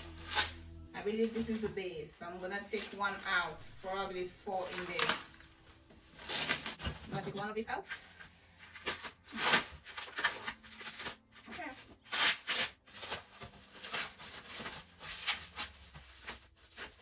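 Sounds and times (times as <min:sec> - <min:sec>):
plastic wrapping crinkling: 0:00.0 - 0:07.0, 0:08.5 - 0:17.0.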